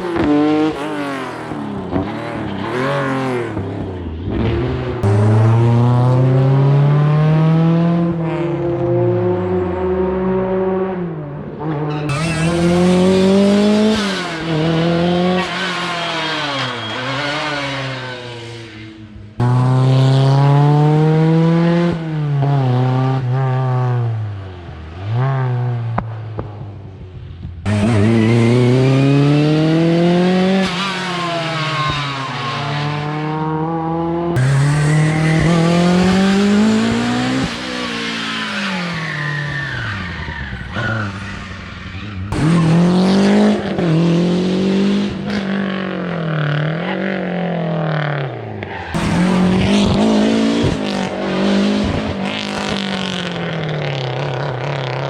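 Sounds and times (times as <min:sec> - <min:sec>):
rally cars accelerating and shifting: 0:00.0 - 0:55.0.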